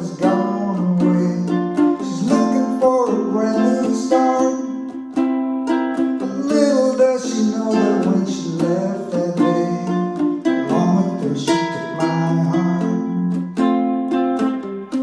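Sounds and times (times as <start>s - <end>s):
ukuleles strumming chords: 0.0s - 15.0s.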